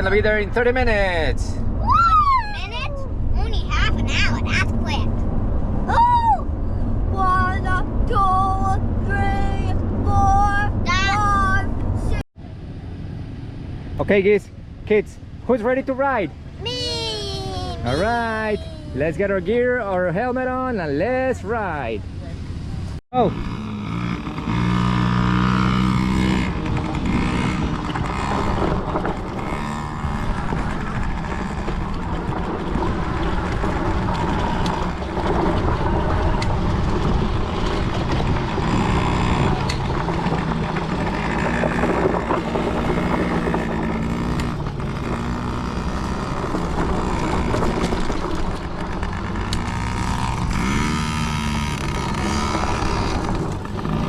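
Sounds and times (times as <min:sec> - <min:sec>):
dirt bike engines revving: 0:00.0 - 0:06.2, 0:14.0 - 0:22.2, 0:22.9 - 0:54.0.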